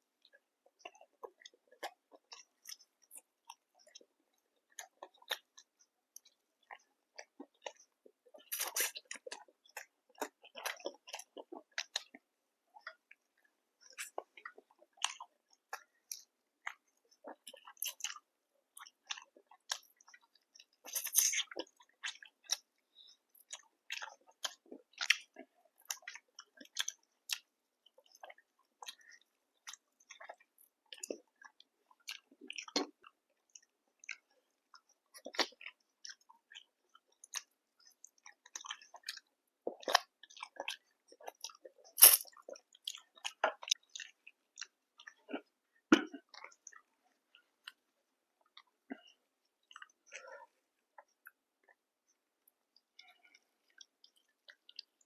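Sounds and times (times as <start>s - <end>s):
chewing and biting food: 0.2s - 55.0s.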